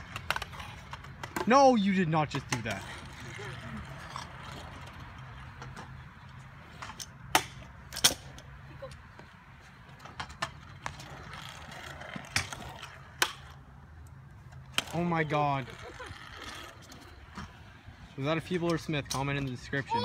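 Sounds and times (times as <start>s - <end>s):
scooter decks clacking on concrete: 0.0s - 13.6s, 14.4s - 20.0s.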